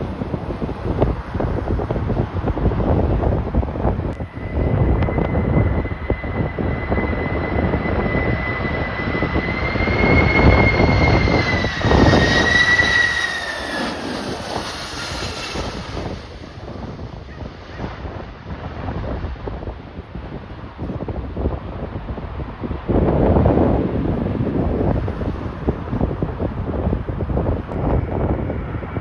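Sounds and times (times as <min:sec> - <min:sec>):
jet airliner engine whine: 0:00.0 - 0:29.0
wind buffeting microphone: 0:00.0 - 0:29.0.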